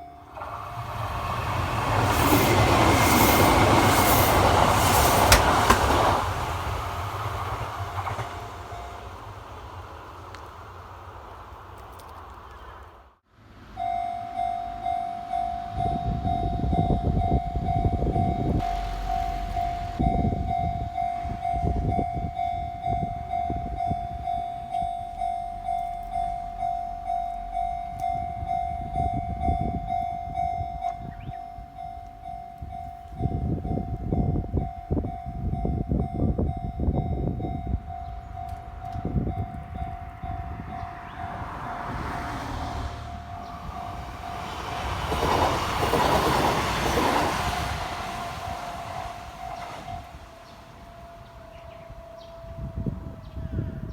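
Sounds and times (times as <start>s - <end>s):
level crossing alarm ringing: 0.0s - 6.3s, 8.1s - 9.4s, 13.7s - 53.9s
train rumbling and wheel clatter: 0.0s - 53.9s.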